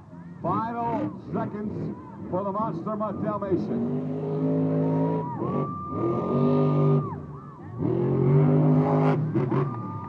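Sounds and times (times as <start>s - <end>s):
truck engine revving: 0.6s - 10.0s.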